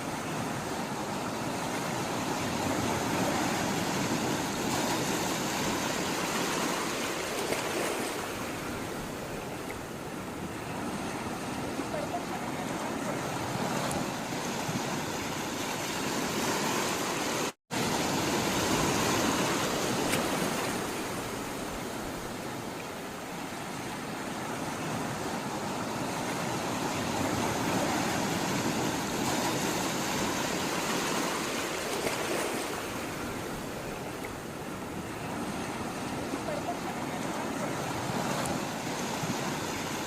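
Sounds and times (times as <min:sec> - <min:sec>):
sea water rushing: 0:00.0 - 0:40.0.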